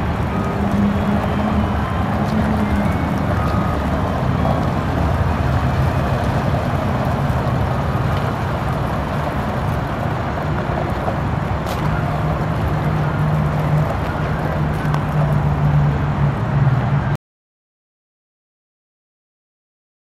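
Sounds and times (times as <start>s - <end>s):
diesel truck engine hum: 0.0s - 17.2s.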